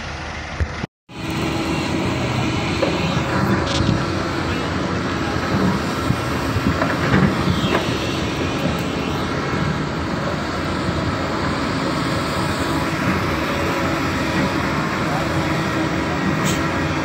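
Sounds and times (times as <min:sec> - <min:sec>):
excavator diesel engines running: 0:00.0 - 0:17.0.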